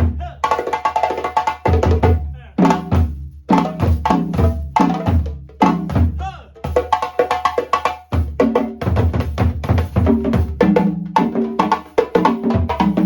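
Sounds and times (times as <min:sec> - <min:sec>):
hand drums playing: 0:00.0 - 0:13.0.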